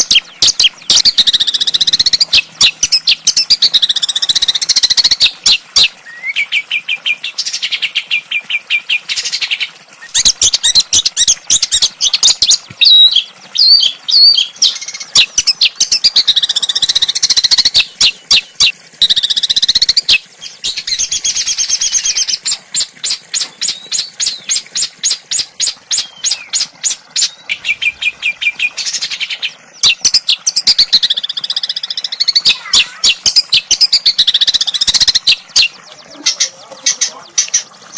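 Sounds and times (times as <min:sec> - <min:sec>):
songbird singing: 0:00.0 - 0:37.9.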